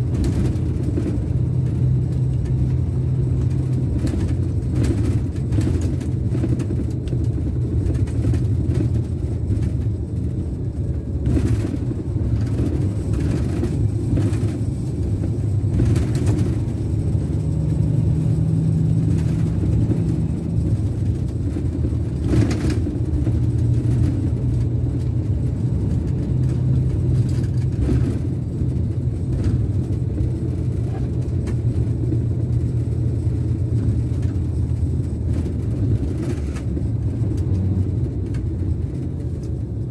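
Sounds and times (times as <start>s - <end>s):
diesel engine low drone: 0.0s - 39.9s.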